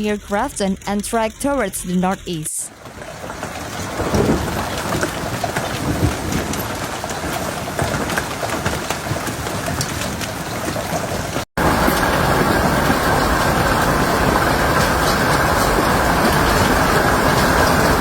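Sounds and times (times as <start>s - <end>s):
heavy rain: 2.7s - 18.0s
hail strikes: 2.8s - 18.0s.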